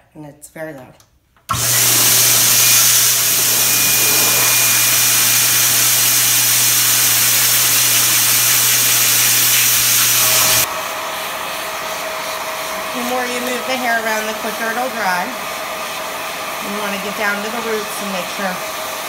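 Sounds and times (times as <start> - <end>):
pet dryer blowing air: 1.5 - 19.0.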